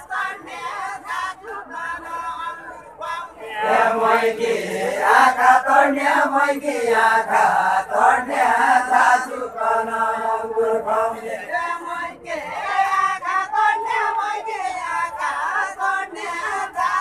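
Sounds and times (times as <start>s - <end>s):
group singing folk song: 0.0s - 17.0s.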